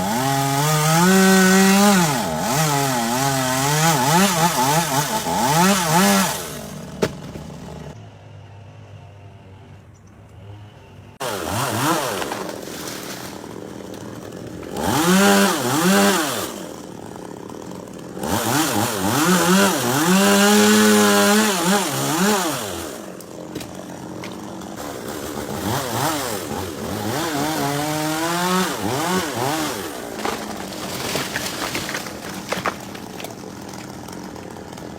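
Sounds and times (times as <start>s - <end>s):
chainsaw revving: 0.0s - 8.0s, 11.2s - 34.9s.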